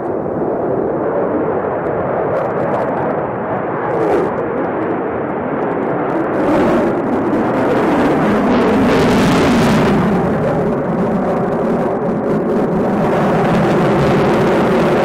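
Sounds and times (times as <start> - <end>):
fighter jet flying overhead: 0.0 - 15.0
jet engine crackles: 0.0 - 15.0.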